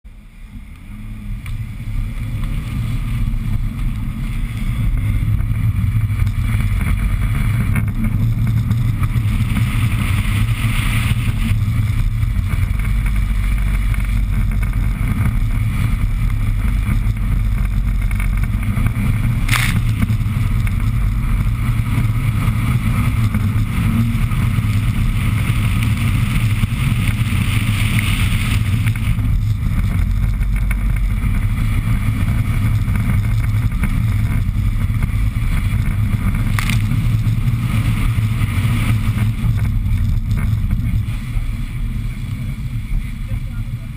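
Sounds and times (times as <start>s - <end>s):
car engine running hard: 0.1s - 43.9s.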